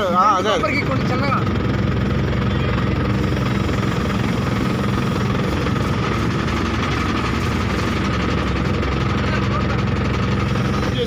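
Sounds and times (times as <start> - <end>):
diesel engine running: 0.0 - 11.0
steady high whine: 0.0 - 11.0.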